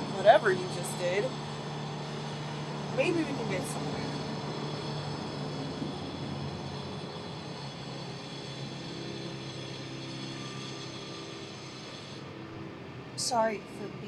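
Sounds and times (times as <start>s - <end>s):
subway rumble and hum: 0.0s - 14.0s.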